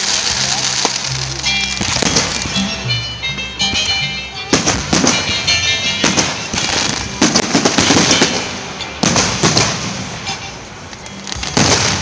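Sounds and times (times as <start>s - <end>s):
firework shells bursting: 0.0s - 3.0s, 3.6s - 12.0s
firework crackling: 0.0s - 12.0s.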